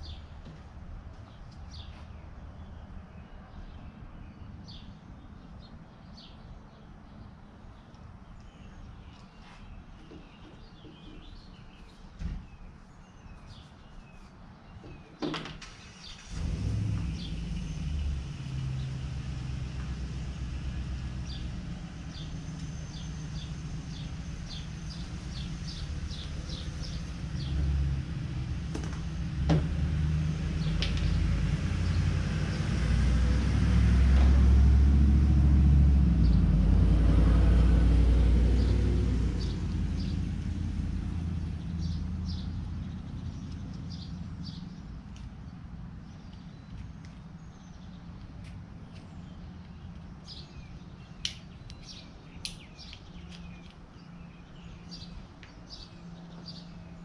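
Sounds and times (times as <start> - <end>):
birds chirping: 0.0 - 16.4, 17.0 - 33.4, 38.5 - 57.0.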